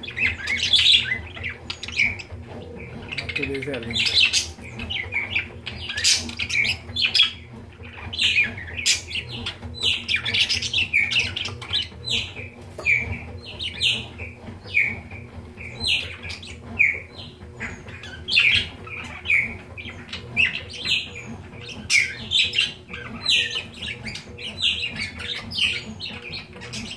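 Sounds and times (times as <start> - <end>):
budgerigars chirping and squawking: 0.0 - 26.9.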